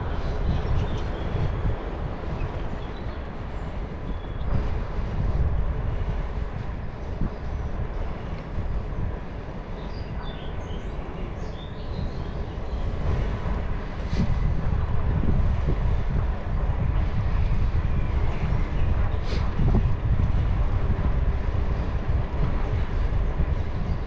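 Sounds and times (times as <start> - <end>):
bicycle rolling noise: 0.0 - 24.0
wind rumbling over microphone: 0.0 - 24.0.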